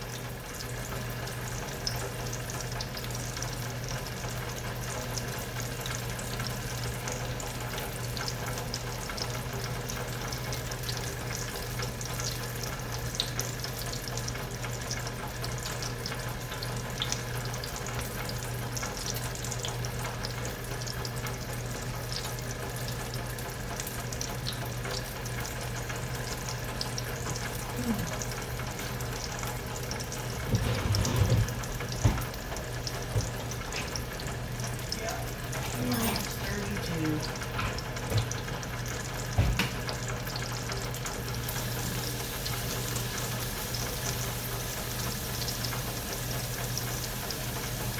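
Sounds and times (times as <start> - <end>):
pan sizzling and crackling: 0.0 - 47.9.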